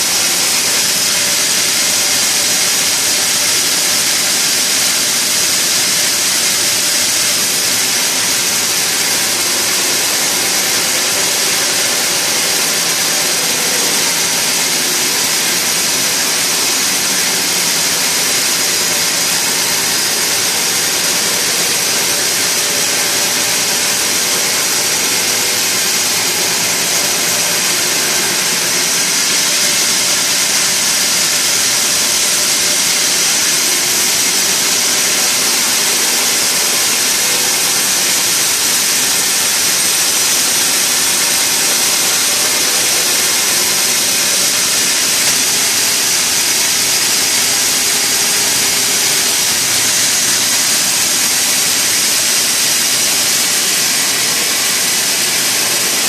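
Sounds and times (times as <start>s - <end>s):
sawmill machinery hissing: 0.0s - 56.0s.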